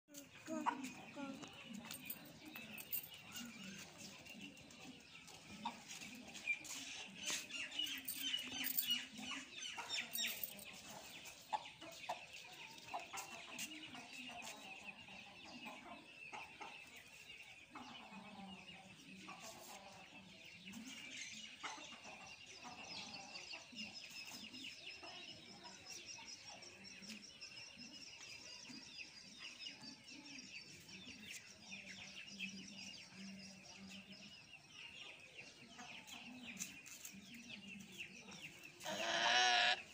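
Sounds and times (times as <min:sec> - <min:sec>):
rooster and hens clucking: 0:00.1 - 0:27.1, 0:30.6 - 0:39.9.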